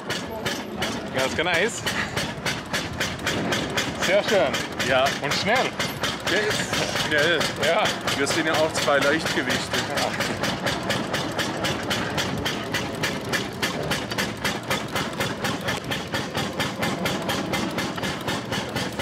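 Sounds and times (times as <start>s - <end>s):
rotary engine idling: 0.0s - 19.0s.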